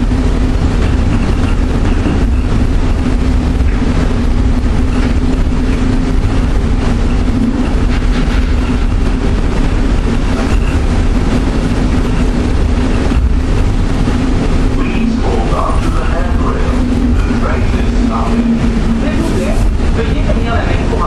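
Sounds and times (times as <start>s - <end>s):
people mover train rumbling: 0.0s - 21.0s.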